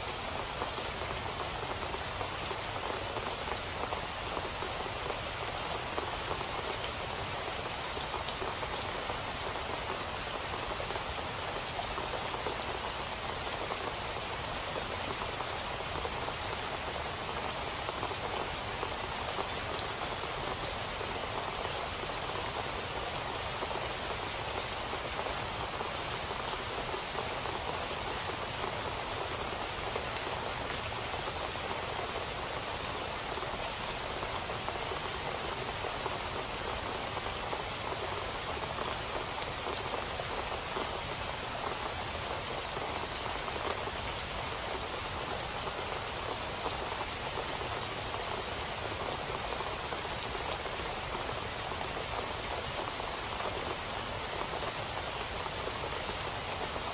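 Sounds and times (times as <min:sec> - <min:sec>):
heavy rain splashing into water: 0:00.0 - 0:56.9.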